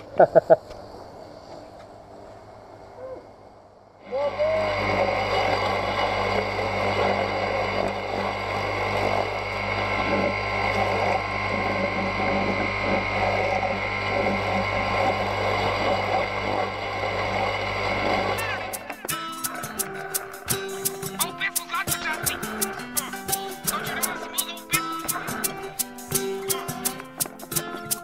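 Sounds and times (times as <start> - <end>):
grass cutter engine running: 4.1 - 28.0.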